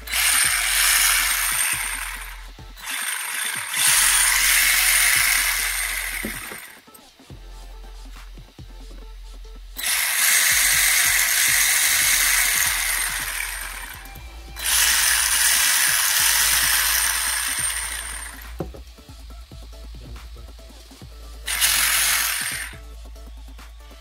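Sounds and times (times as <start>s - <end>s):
rc car motor spinning up: 0.0s - 7.1s, 9.8s - 24.0s.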